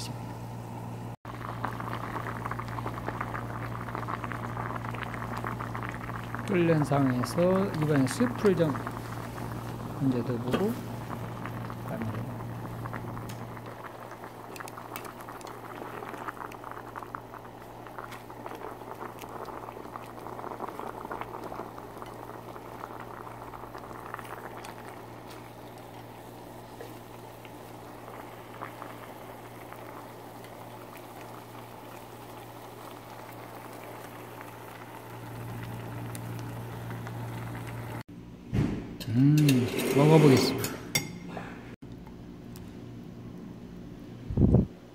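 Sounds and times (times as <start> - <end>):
broth bubbling in a saucepan: 0.0 - 38.1
low steady hum: 0.0 - 38.4.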